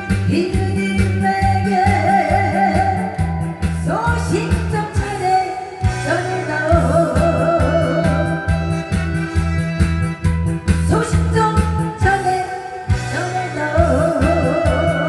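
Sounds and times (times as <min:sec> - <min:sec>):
amplified music with steady beat: 0:00.0 - 0:15.0
woman singing through pa: 0:00.2 - 0:08.5, 0:10.9 - 0:15.0.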